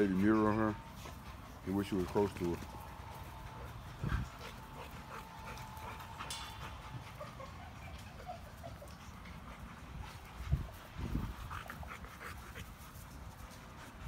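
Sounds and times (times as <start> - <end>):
dogs panting: 0.0 - 14.0.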